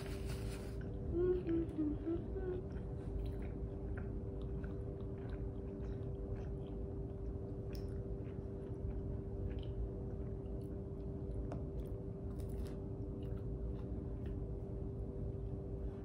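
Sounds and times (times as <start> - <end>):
low hum: 0.0 - 16.0
person chewing food: 0.0 - 16.0.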